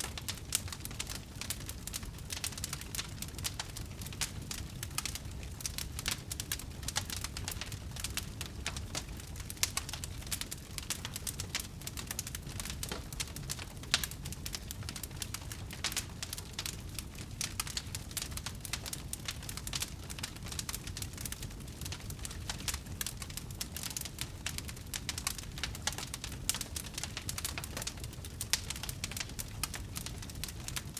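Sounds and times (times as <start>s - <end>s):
low steady fire rumble: 0.0s - 30.9s
wood fire crackling and popping: 0.0s - 30.9s.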